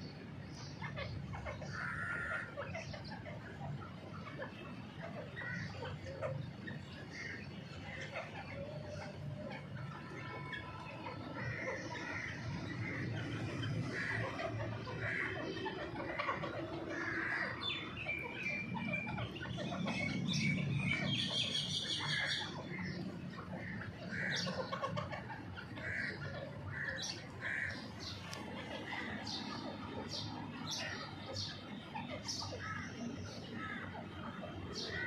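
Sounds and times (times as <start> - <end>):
chicks peeping: 0.0 - 35.0
ground birds calling softly: 0.0 - 35.0.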